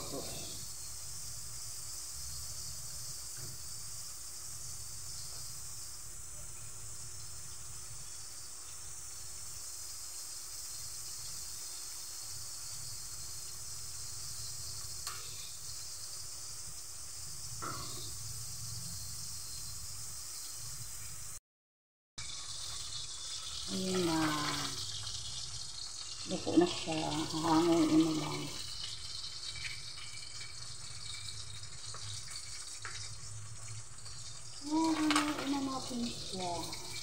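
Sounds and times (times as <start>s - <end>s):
pork sizzling in oil: 0.0s - 21.4s, 22.2s - 37.0s.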